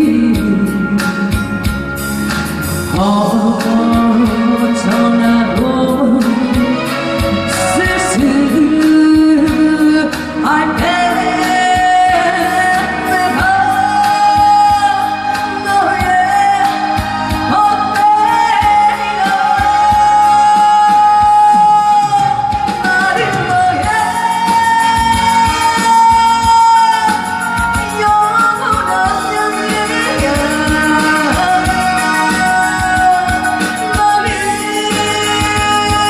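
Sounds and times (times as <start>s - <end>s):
backing track with steady beat: 0.0s - 36.0s.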